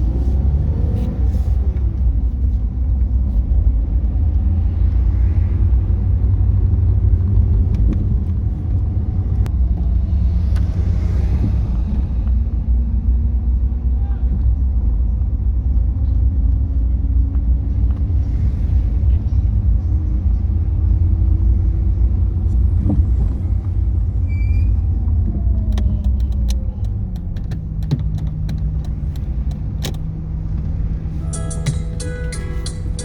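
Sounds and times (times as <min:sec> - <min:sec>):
motor vehicle rumbling: 0:00.0 - 0:33.0.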